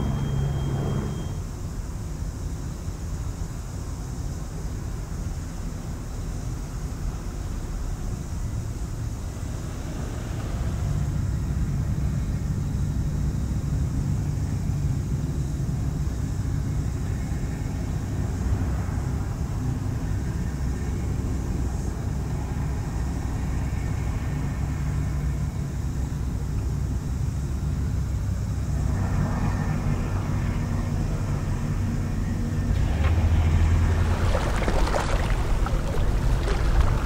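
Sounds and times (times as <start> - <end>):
low ship engine rumble: 0.0 - 37.0.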